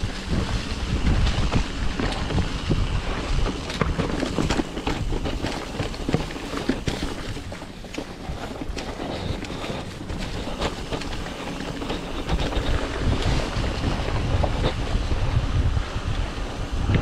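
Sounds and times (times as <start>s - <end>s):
bike clicks and rattles: 0.0s - 17.0s
bike tyres crunching through leaves: 0.0s - 17.0s
wind noise on microphone: 0.0s - 17.0s.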